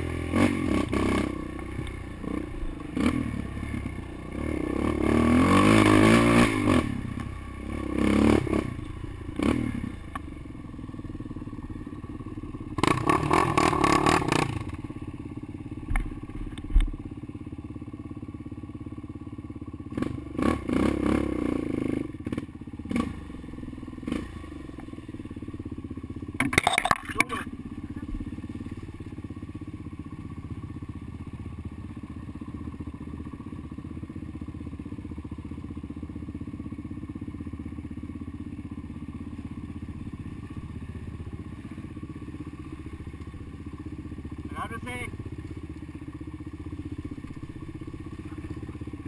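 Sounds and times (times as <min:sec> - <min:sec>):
quad bike engine revving: 0:00.0 - 0:49.0
quad bike rattling over bumps: 0:00.0 - 0:49.0.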